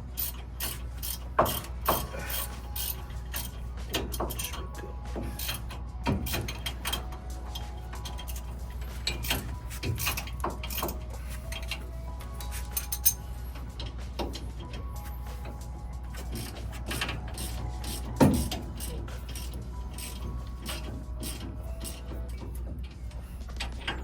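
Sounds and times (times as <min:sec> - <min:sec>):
ratchet wrench clicking: 0:00.1 - 0:24.0.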